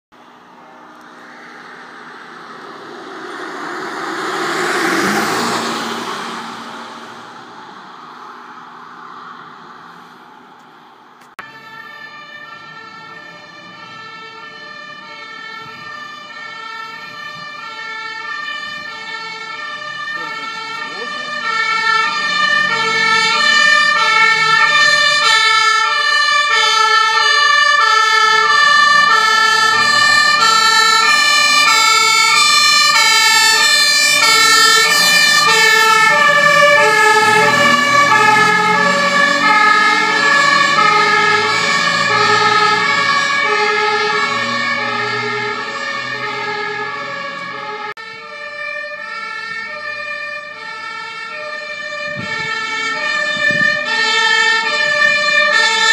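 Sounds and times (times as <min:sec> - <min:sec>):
two-tone sirens: 0:00.1 - 0:55.9
fire engine rumble: 0:00.2 - 0:55.9.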